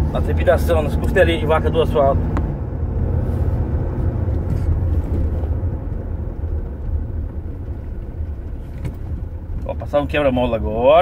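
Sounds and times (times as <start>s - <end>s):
tyres rumbling on rough asphalt: 0.0s - 11.0s.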